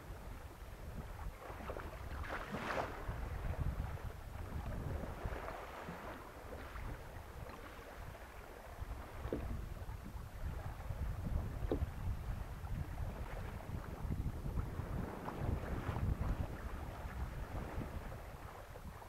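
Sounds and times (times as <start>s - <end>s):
water splashing along hull: 0.0s - 19.0s
wind buffeting microphone: 0.0s - 19.0s.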